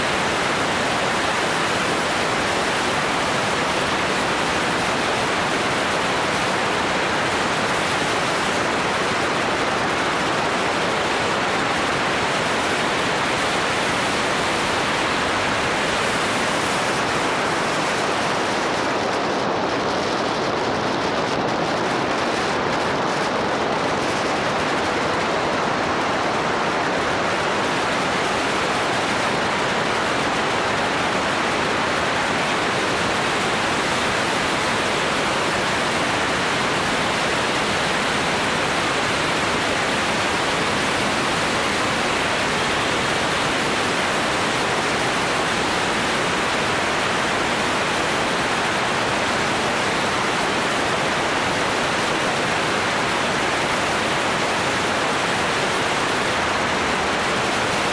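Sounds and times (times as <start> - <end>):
wind rushing over microphone: 0.1 - 57.9.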